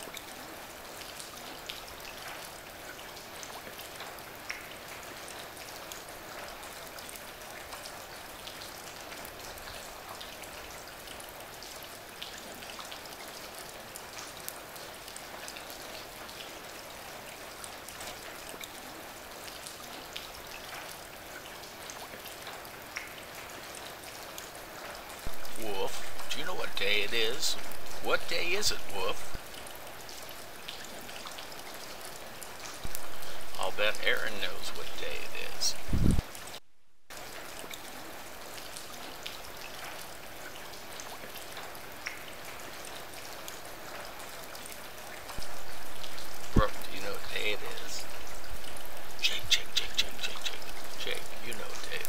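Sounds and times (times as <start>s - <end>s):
steady rain hiss: 0.0s - 52.0s
raindrop ticks: 0.1s - 16.7s, 19.4s - 52.0s.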